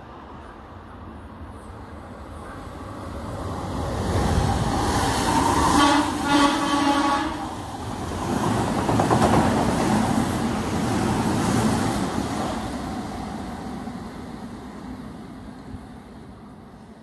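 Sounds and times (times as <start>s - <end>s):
train wheels rumbling on rails: 2.4s - 16.9s.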